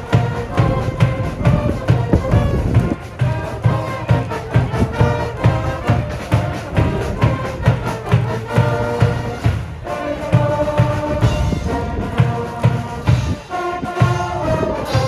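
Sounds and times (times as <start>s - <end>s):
brass band playing: 0.0s - 15.0s
steady drum beat: 0.0s - 15.0s.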